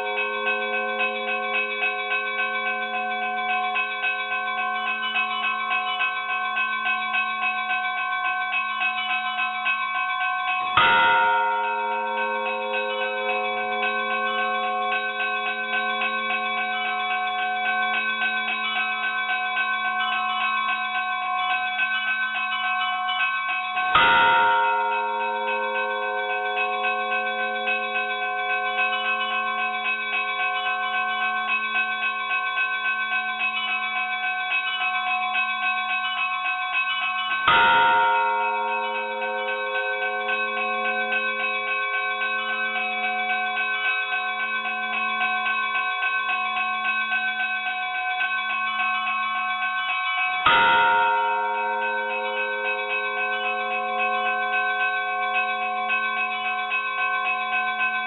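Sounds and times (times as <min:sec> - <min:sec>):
small bells chiming rapidly: 0:00.0 - 0:58.0.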